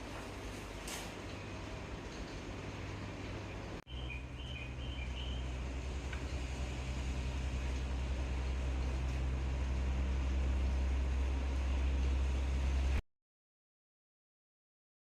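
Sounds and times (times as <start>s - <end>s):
air conditioner airflow hiss: 0.0s - 13.0s
low hum: 0.0s - 13.0s.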